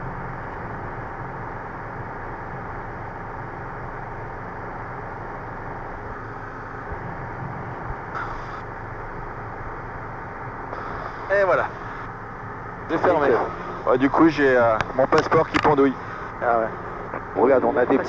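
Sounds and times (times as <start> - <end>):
faint steady whine: 0.0 - 18.0
helicopter cabin engine and rotor noise: 0.0 - 18.0.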